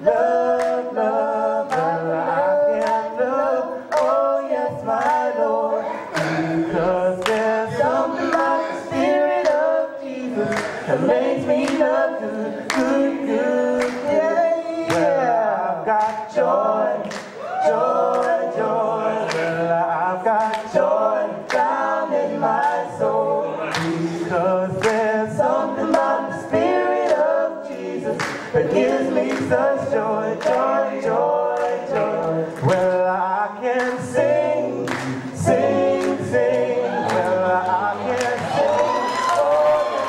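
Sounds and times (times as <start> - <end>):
male group singing a cappella gospel: 0.0 - 40.0.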